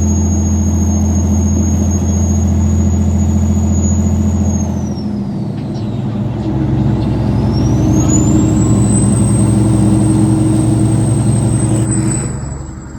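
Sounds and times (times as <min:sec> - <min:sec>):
diesel engine revving: 0:00.0 - 0:12.9
turbocharger whistle: 0:00.0 - 0:12.9.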